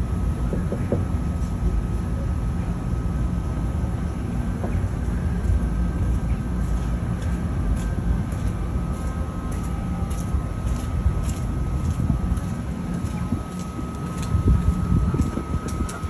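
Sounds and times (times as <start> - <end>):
faint steady whine: 0.0 - 16.0
low outdoor rumble: 0.0 - 16.0.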